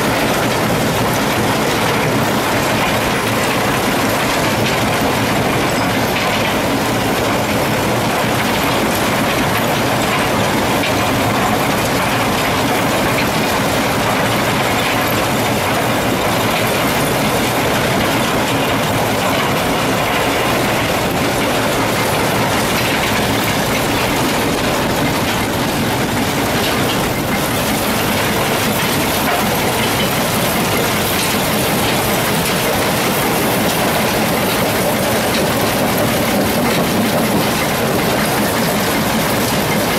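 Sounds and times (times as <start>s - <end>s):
rock crusher and conveyors rumbling: 0.0s - 39.9s.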